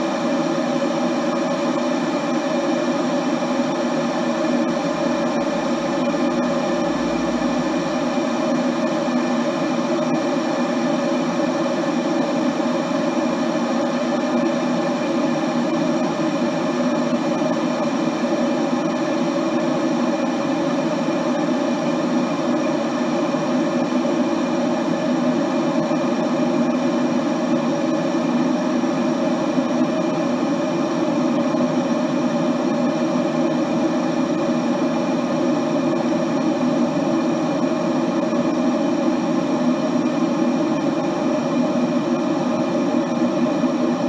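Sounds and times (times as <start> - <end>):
water boiling in a kettle: 0.0 - 44.0.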